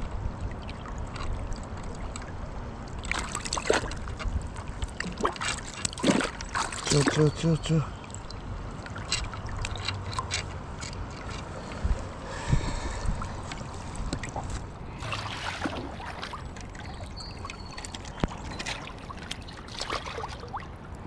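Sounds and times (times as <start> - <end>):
river water running and splashing: 0.0 - 21.0.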